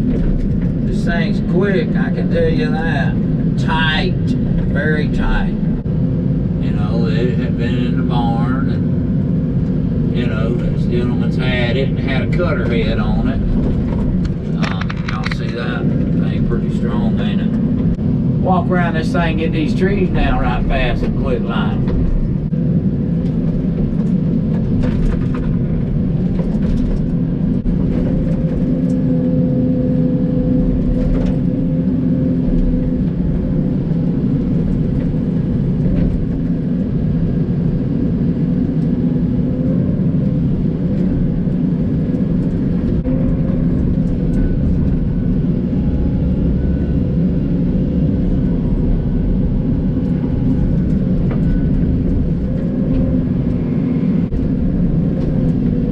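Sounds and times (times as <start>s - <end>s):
excavator diesel engine running: 9.3s - 37.2s, 38.7s - 55.9s.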